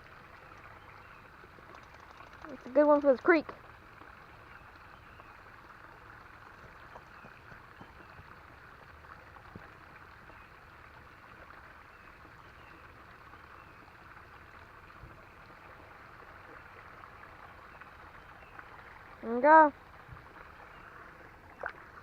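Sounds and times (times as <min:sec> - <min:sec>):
faint creek water running: 0:00.0 - 0:22.0.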